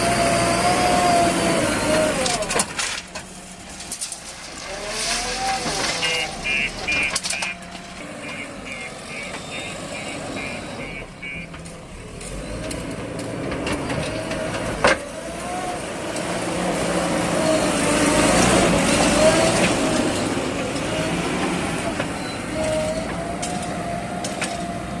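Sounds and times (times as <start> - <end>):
diesel engine under load: 0.0 - 25.0.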